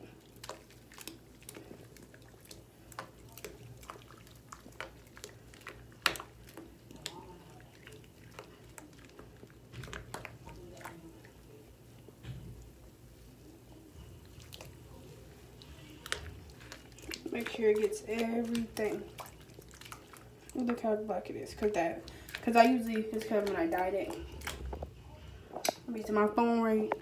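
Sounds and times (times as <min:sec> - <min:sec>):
wet wigs squishing in water: 0:00.0 - 0:27.0.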